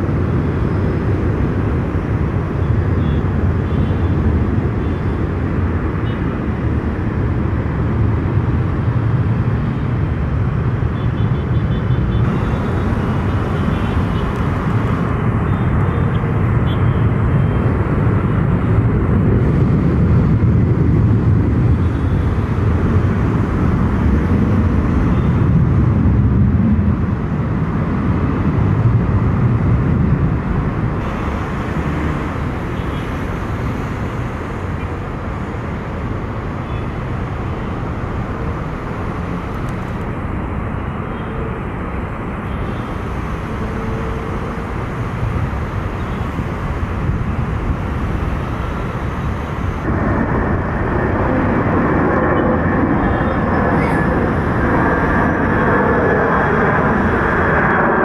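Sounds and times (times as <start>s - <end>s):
jet aircraft engines rumbling: 0.0s - 58.0s.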